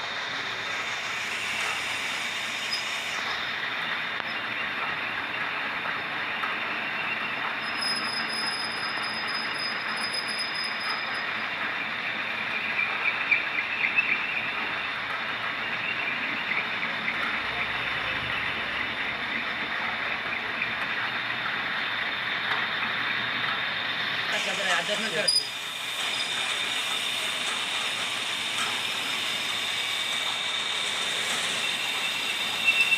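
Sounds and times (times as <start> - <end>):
metal lathe whining: 0.0 - 5.7, 6.9 - 32.9.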